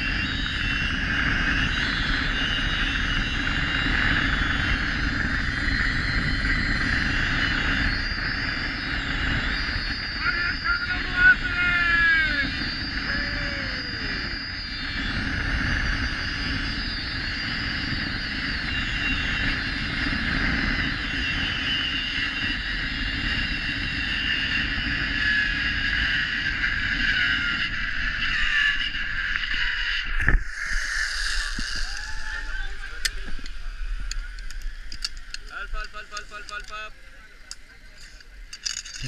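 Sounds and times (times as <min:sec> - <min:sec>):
wind rushing over microphone: 0:00.0 - 0:39.0
zip-line pulleys whining on cable: 0:00.0 - 0:39.0.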